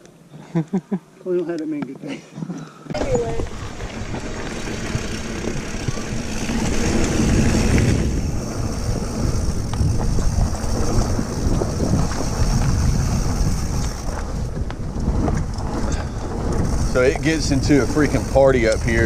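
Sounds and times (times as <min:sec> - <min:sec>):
bike clicks and rattles: 0:02.9 - 0:19.0
bike tire noise on dirt: 0:02.9 - 0:19.0
wind rushing over microphone: 0:02.9 - 0:19.0.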